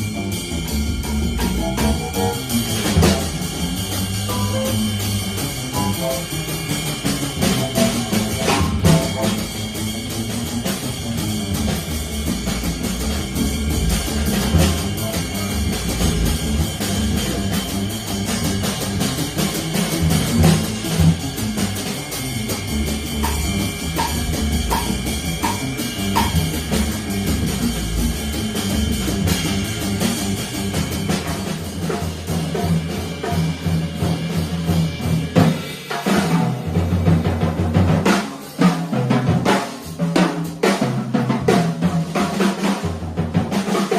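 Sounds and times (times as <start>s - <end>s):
jazz quartet playing: 0.0s - 35.5s
drum kit: 0.0s - 43.9s.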